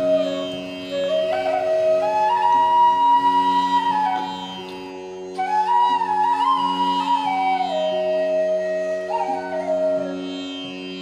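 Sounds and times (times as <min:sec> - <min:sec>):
flute melody: 0:00.0 - 0:11.0.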